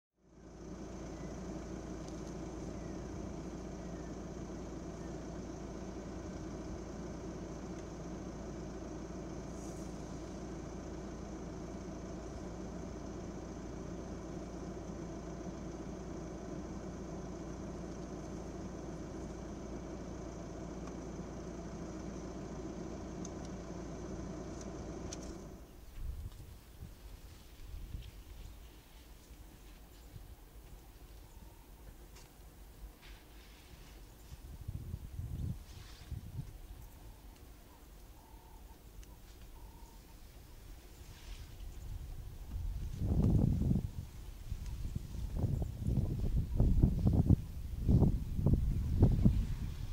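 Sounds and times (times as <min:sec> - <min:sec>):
vehicle engine idling: 0:00.2 - 0:49.9.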